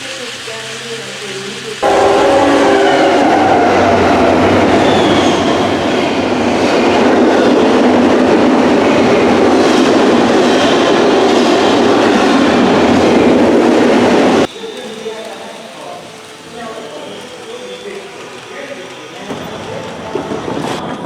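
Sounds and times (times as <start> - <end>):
train passing rumble and rattle: 0.0 - 21.0.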